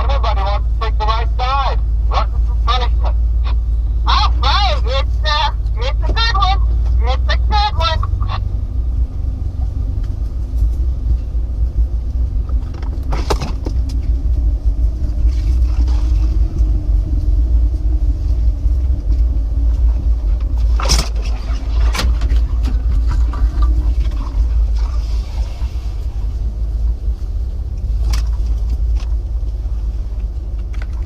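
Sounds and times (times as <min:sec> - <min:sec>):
engine rumbling at low revs: 0:00.0 - 0:31.0.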